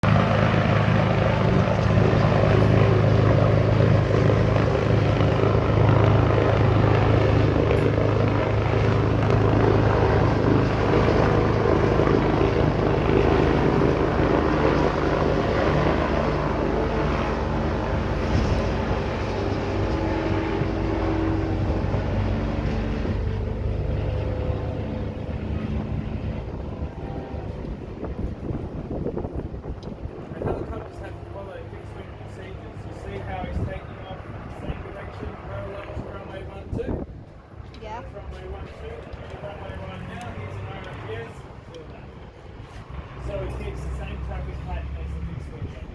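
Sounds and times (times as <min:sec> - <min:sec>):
helicopter rotors and turbines: 0:00.0 - 0:45.9.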